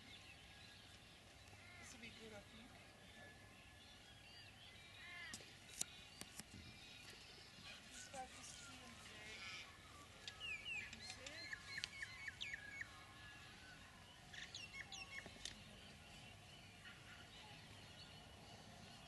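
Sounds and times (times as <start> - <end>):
faint outdoor hush: 0.0 - 19.0
birds chirping and whistling: 3.2 - 19.0.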